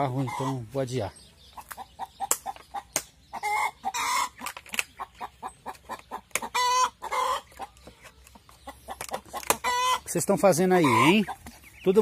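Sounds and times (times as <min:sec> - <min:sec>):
hens cackling: 0:00.0 - 0:12.0
hens clucking: 0:00.0 - 0:12.0.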